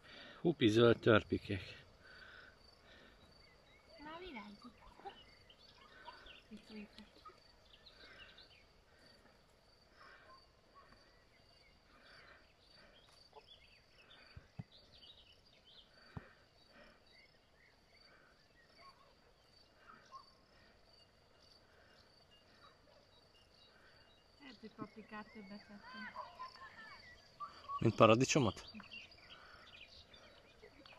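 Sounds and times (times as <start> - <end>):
distant bird chirps: 0.0 - 30.9.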